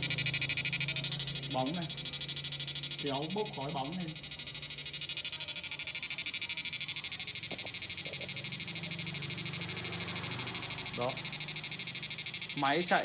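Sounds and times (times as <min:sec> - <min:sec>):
pulsing high-pitched electronic whine: 0:00.0 - 0:13.0.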